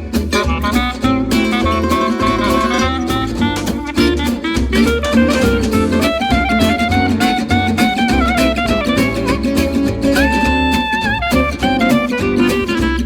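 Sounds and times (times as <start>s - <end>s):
instrumental music with pulsing bass: 0.0s - 13.0s.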